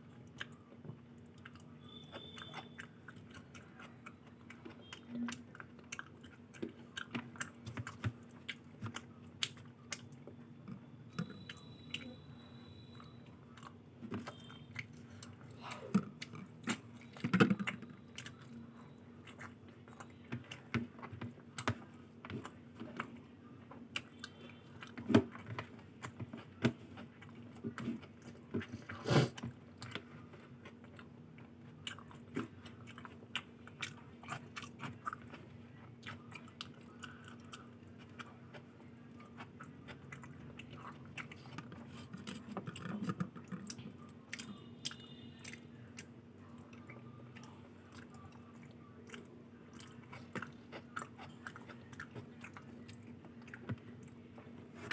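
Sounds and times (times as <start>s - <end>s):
close chewing and mouth smacks: 0.0s - 54.9s
faint low hum: 0.0s - 54.9s.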